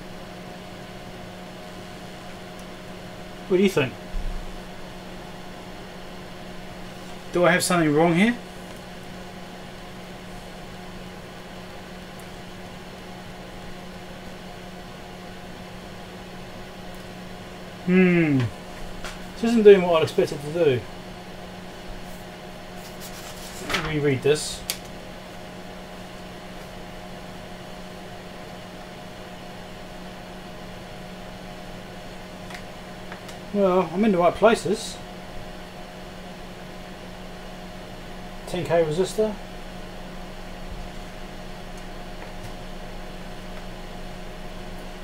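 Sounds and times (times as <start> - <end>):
bench equipment humming: 0.0 - 45.0
fan hiss: 0.0 - 45.0.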